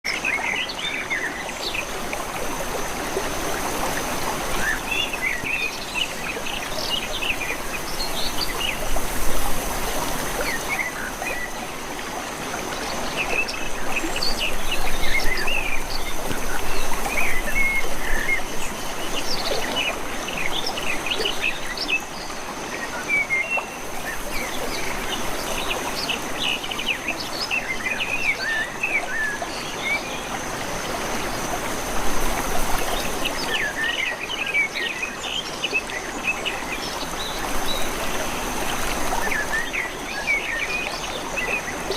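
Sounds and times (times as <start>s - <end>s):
water flowing in a canal: 0.0s - 41.9s.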